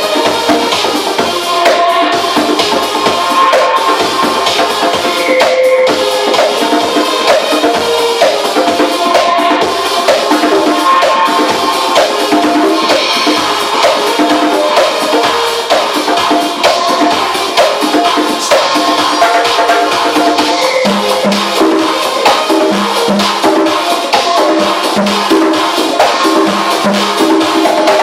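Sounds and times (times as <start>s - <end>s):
dj music melodic line: 0.0s - 28.0s.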